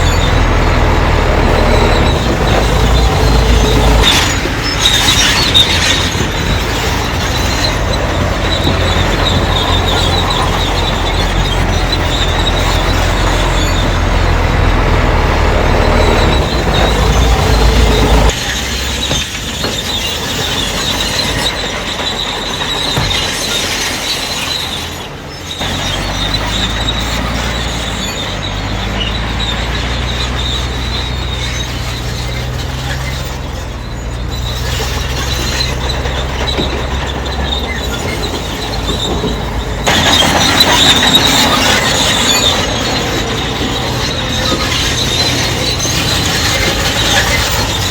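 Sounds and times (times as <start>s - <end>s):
diesel engine under load: 0.0s - 47.9s
steel tracks squealing: 0.0s - 47.9s.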